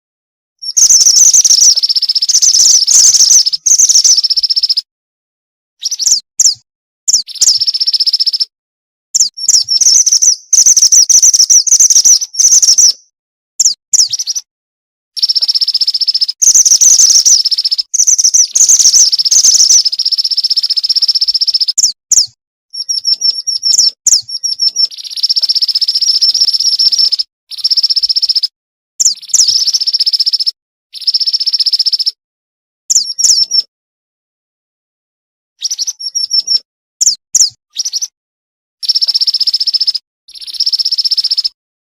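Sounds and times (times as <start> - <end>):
bird long shrill trills: 0.6 - 4.9, 5.8 - 8.5, 9.2 - 14.5, 15.2 - 32.2, 35.6 - 36.6, 37.4 - 38.1, 38.8 - 41.6
bird quick high chirps: 0.6 - 4.9, 5.8 - 8.5, 9.2 - 14.5, 15.2 - 32.2, 32.9 - 33.7, 35.6 - 38.2, 38.8 - 41.6.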